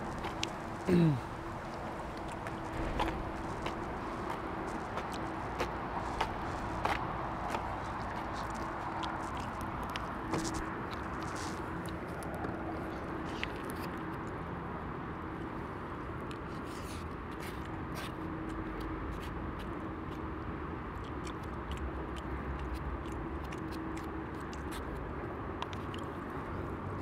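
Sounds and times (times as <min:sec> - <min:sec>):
chewing: 0:00.0 - 0:27.0
distant traffic hum: 0:00.0 - 0:27.0.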